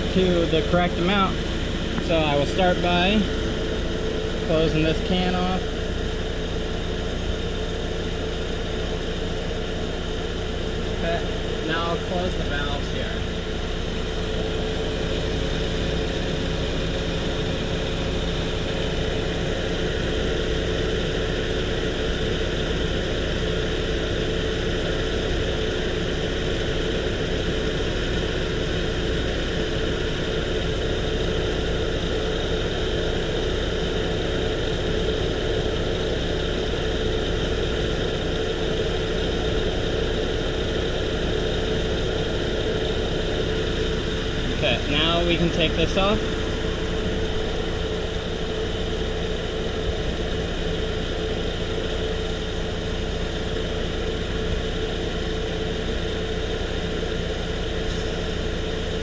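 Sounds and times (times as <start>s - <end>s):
ac compressor running: 0.0s - 59.0s
car engine idling: 0.0s - 59.0s.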